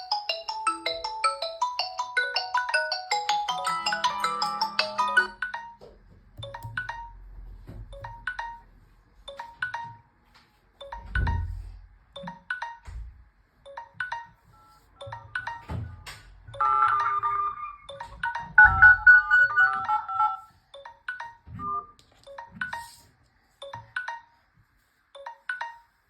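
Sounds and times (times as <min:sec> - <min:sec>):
smartphone ringtone: 0:00.0 - 0:07.3, 0:08.0 - 0:10.1, 0:10.8 - 0:12.9, 0:13.7 - 0:24.4, 0:25.2 - 0:26.0.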